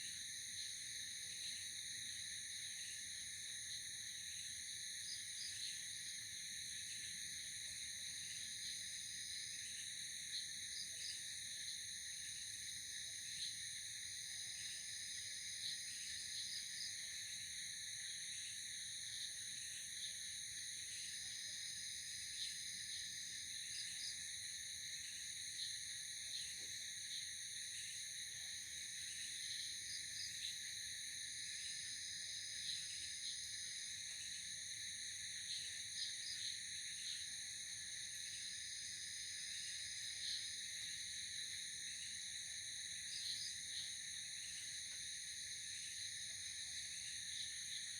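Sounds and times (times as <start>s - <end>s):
cricket chirps: 0.0s - 47.9s
insect drone: 0.0s - 47.9s.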